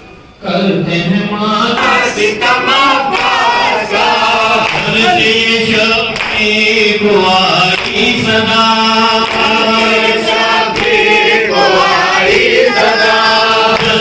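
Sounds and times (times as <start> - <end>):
group of voices chanting: 1.6 - 14.0.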